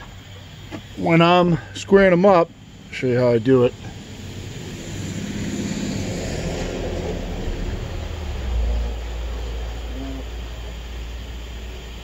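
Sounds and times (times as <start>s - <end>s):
truck passing on road: 1.5s - 12.0s.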